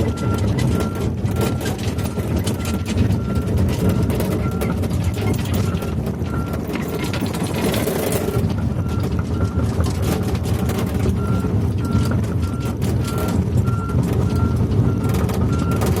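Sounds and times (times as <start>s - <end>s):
reversing alarm beeps: 0.0s - 9.6s, 11.2s - 15.9s
excavator diesel engine running: 0.0s - 16.0s.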